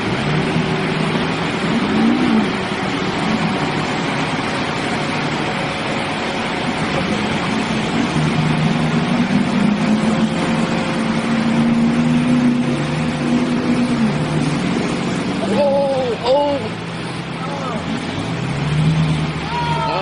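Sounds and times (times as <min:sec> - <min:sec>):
heavy truck engine running: 0:00.0 - 0:20.0
loud rushing noise: 0:00.0 - 0:20.0.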